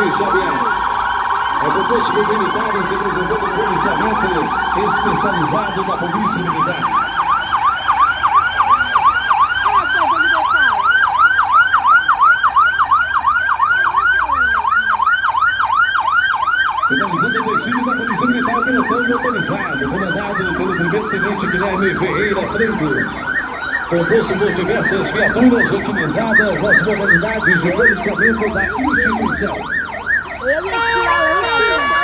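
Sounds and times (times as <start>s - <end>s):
siren yelping: 0.0s - 32.0s.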